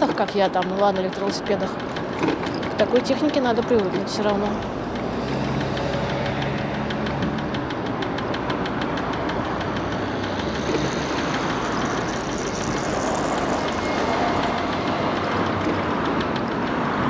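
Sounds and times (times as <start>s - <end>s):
rapid regular ticking: 0.0s - 17.0s
wind and road noise: 0.0s - 17.0s.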